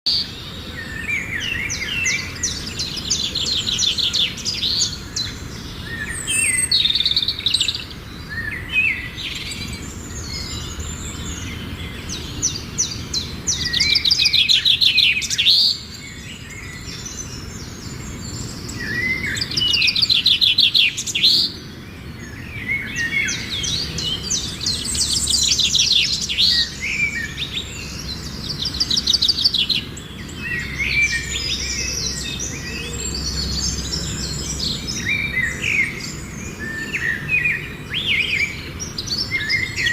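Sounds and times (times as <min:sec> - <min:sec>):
bird chirps: 0:00.1 - 0:39.9.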